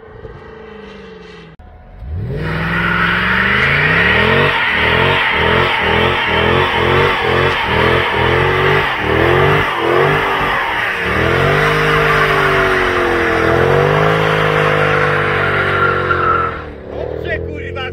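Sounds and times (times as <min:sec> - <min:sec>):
car engine revving hard: 0:00.0 - 0:17.9
spinning tyres squealing: 0:00.0 - 0:17.9.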